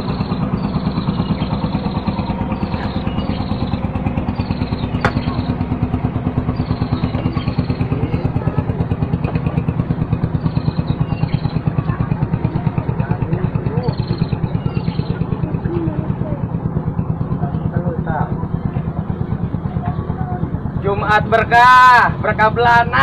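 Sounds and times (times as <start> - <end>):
engine running with low pulse: 0.0 - 23.0.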